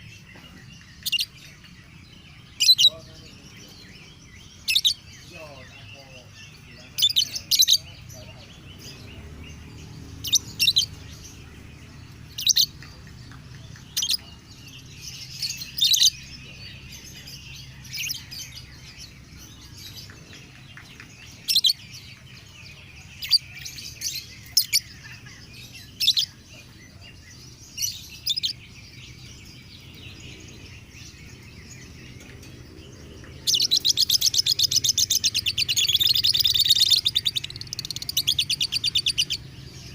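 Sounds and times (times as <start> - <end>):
bird chattering song: 0.0 - 39.9
lovebird chirping: 0.0 - 39.9.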